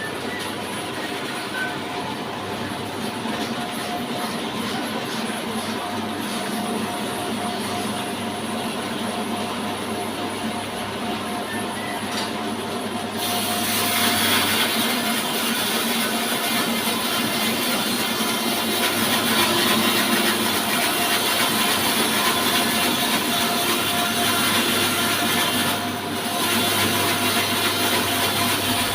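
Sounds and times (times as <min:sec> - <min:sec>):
log sawmill running: 0:00.0 - 0:28.9.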